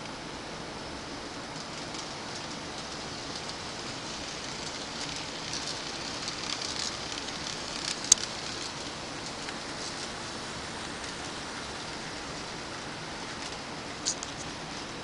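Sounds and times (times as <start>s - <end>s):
model train wheels rattling: 1.5s - 15.0s.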